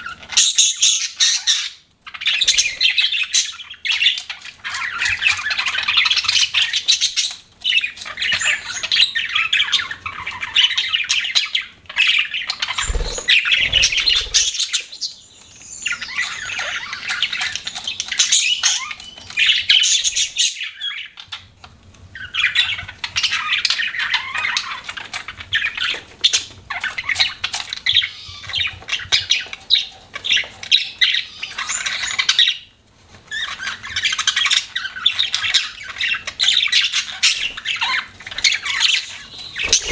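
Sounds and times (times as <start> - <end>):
budgerigars chirping and chattering: 0.0 - 21.5, 22.2 - 32.7, 33.3 - 39.9.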